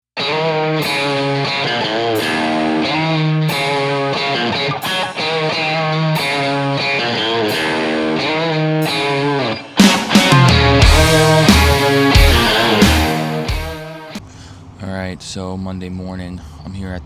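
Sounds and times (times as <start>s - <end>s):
guitar rock music: 0.2s - 14.2s.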